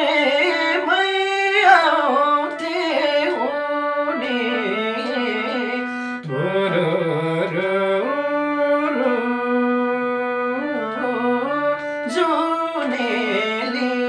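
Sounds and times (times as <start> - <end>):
instrumental accompaniment: 0.0 - 14.0
person singing folk song: 0.0 - 14.0.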